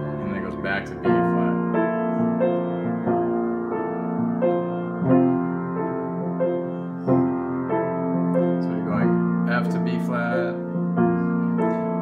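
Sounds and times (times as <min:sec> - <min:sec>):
slow piano playing: 0:00.0 - 0:12.0.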